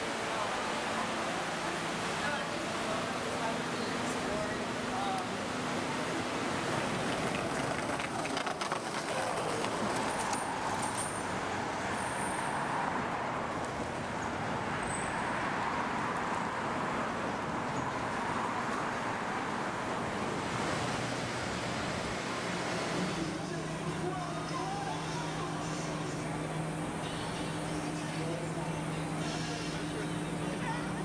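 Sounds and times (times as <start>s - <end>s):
busy street traffic: 0.0s - 31.0s.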